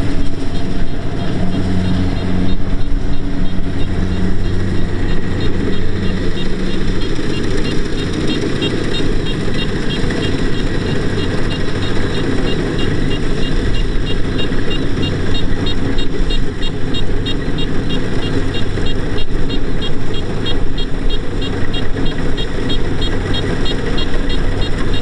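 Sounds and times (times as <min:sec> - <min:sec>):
combine harvester diesel engine: 0:00.0 - 0:25.0
fast high-pitched ticking: 0:00.0 - 0:25.0.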